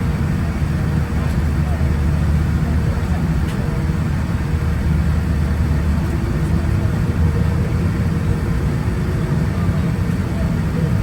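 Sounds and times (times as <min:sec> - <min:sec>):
aircraft engines idling rumble: 0:00.0 - 0:11.0.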